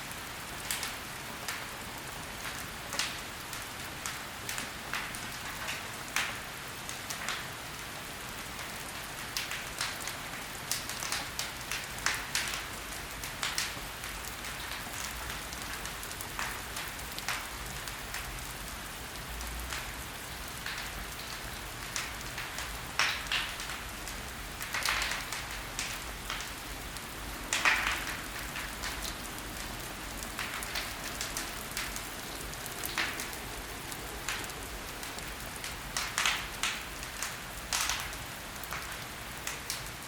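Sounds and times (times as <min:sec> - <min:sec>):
fire hissing softly: 0:00.0 - 0:40.0
logs crackling and popping: 0:00.2 - 0:07.8, 0:08.4 - 0:18.6, 0:19.3 - 0:40.0.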